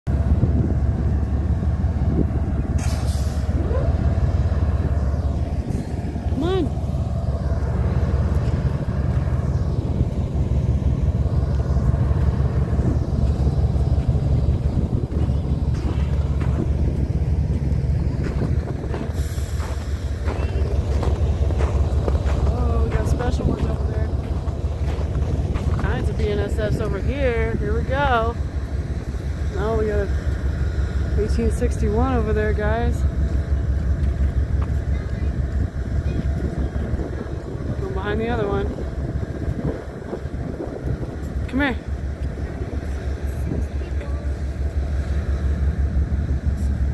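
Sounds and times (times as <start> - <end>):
diesel locomotive rumbling: 0.0 - 46.9
wind on microphone: 0.1 - 30.0, 34.0 - 44.6.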